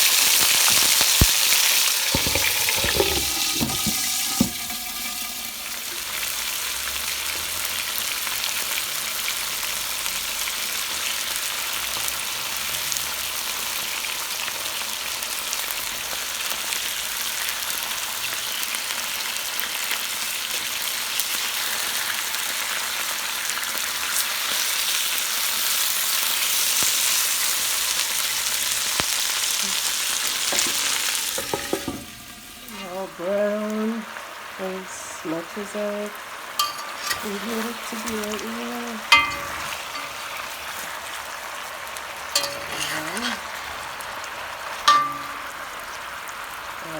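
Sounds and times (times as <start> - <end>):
chicken sizzling in a pot: 0.0 - 46.9.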